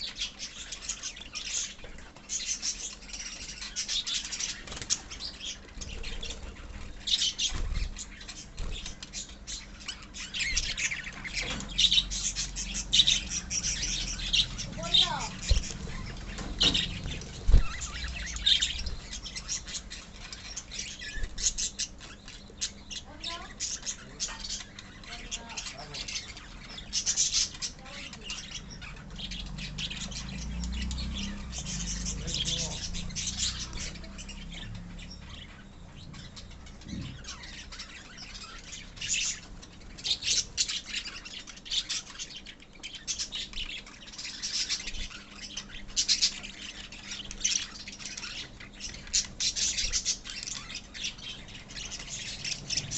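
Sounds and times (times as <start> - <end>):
lovebirds chattering and squawking: 0.0 - 52.9
low steady hum: 0.0 - 52.9.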